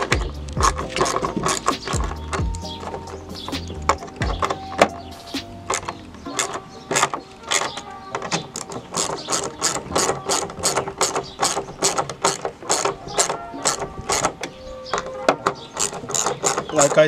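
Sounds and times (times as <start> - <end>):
hand ratchet clicking: 0.0 - 17.0.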